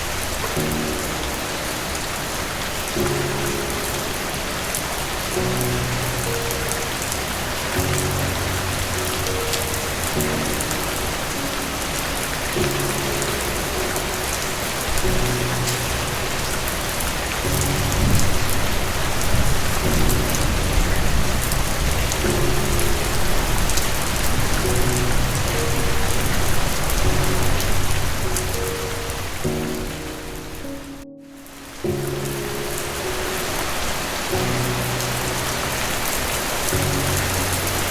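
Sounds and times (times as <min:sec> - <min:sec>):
thunder rumbling: 0:00.0 - 0:30.8
heavy rain: 0:00.0 - 0:37.9
soft music with low notes: 0:00.0 - 0:37.9.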